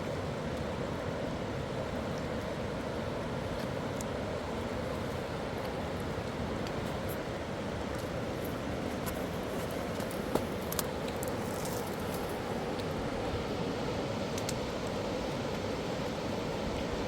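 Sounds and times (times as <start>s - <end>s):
river rushing: 0.1s - 17.0s.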